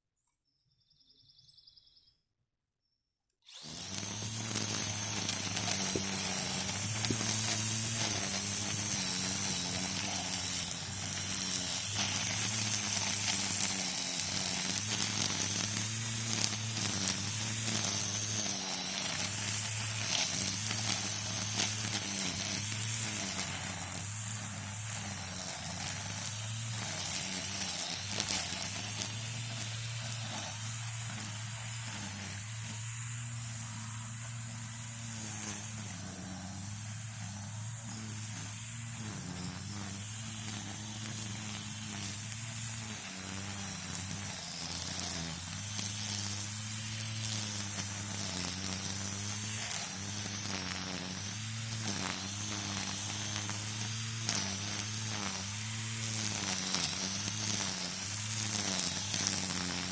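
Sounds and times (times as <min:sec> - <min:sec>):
string trimmer running: 0:03.4 - 0:59.9
hiss of cutting line: 0:03.5 - 0:59.9.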